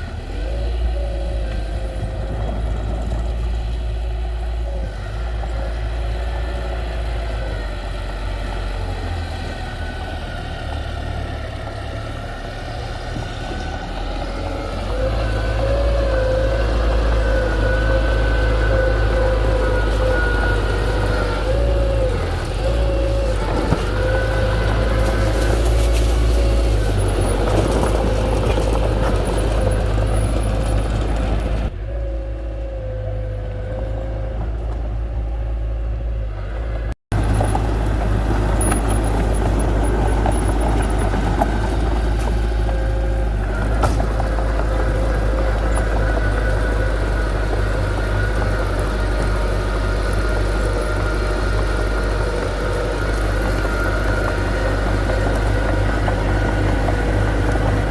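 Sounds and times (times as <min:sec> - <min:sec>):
heavy machinery diesel engine: 0:00.0 - 0:57.9.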